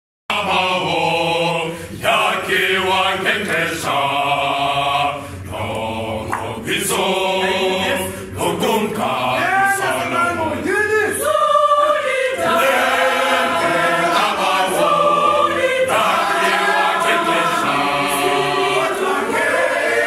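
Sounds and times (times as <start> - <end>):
choir singing unaccompanied: 0.3 - 20.0.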